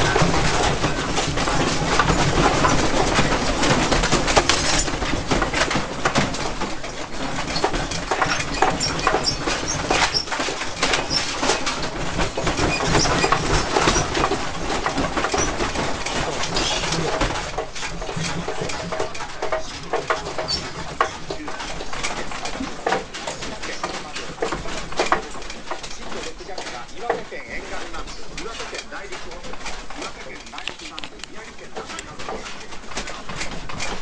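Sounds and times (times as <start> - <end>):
room rattling and creaking: 0.0 - 34.0.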